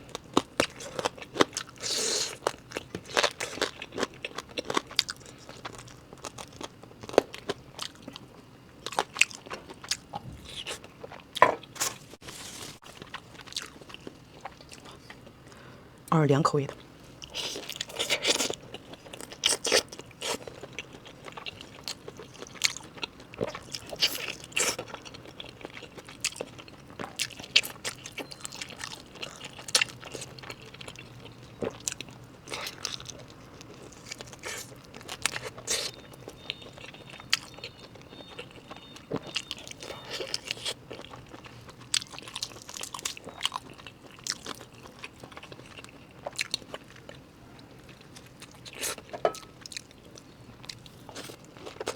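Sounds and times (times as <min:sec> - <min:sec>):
chewing with mouth clicks: 0:00.0 - 0:15.7, 0:16.7 - 0:51.9.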